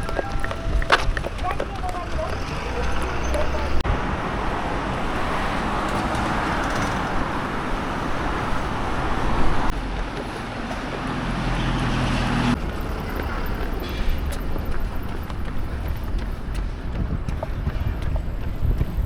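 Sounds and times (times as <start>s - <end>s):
rushing vehicle noise: 0.0s - 19.0s.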